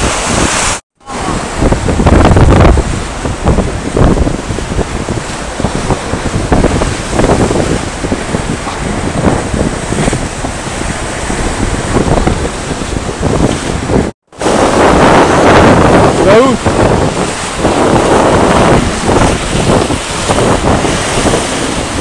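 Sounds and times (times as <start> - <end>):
sea surf washing against rocks: 0.0 - 22.0
wind gusting on microphone: 0.0 - 22.0.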